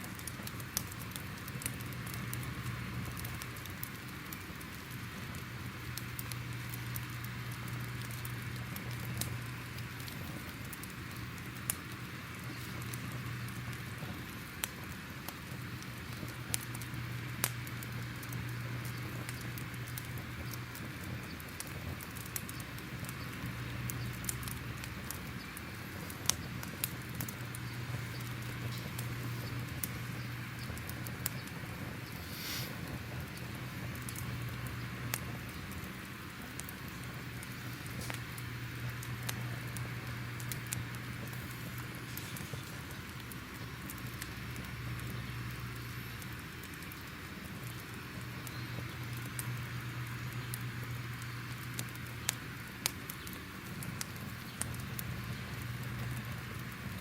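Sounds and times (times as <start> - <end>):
crackling fire: 0.0 - 57.0
fire popping and snapping: 0.0 - 57.0.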